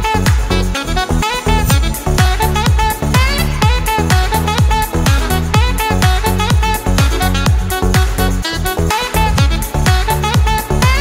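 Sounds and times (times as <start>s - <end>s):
electronic drum beat: 0.0s - 11.0s
synth melody: 0.0s - 11.0s.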